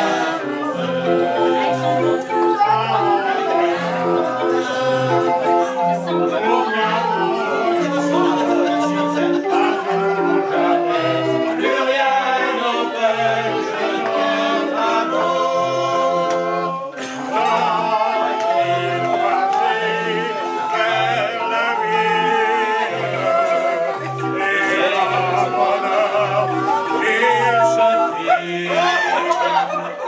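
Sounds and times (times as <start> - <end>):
barrel organ playing: 0.0 - 30.0
group singing: 0.0 - 30.0.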